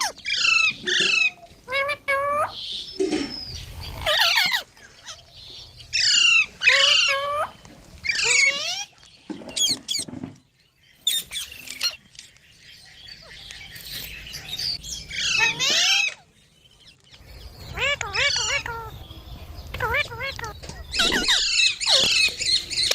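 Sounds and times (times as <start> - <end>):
parrots calling: 0.0 - 10.3, 11.0 - 12.1, 12.8 - 16.4, 17.2 - 22.9.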